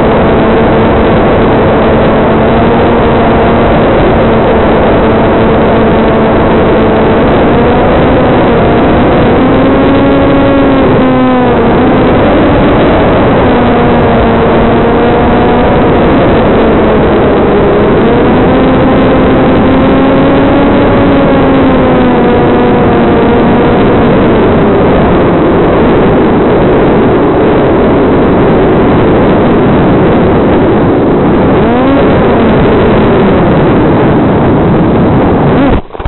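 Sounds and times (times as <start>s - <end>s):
electric motor and propeller whine: 0.0s - 36.0s
wind rush: 0.0s - 36.0s.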